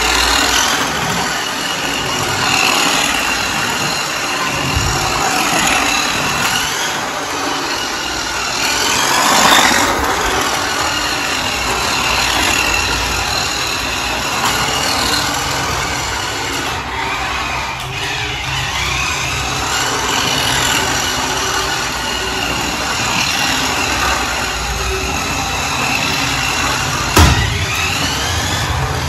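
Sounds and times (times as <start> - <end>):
toy car driving on tiled floor: 0.0 - 29.0
toy car motor whining: 0.0 - 29.0.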